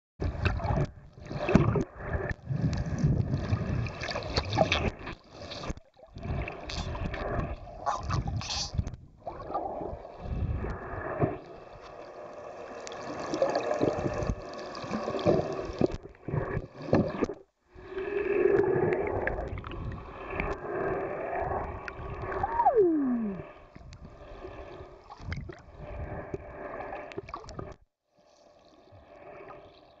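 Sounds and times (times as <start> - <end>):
underwater rushing bubbles: 0.2 - 27.8.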